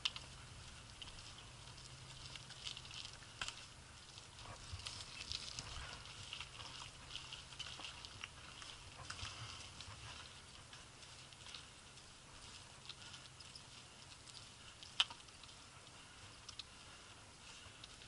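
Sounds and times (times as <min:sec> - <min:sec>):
bicycle clicks and ticks: 0:00.0 - 0:18.0.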